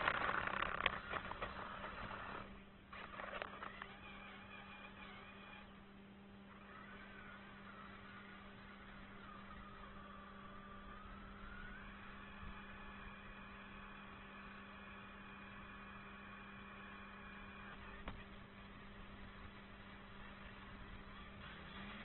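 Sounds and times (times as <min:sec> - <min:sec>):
electric motor whine: 0:00.0 - 0:22.0
electrical hum: 0:00.0 - 0:22.0.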